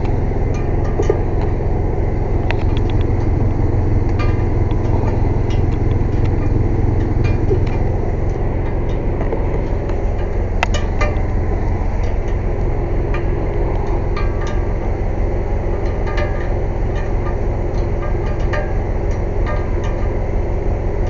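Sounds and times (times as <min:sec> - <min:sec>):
air compressor droning: 0:00.0 - 0:21.0.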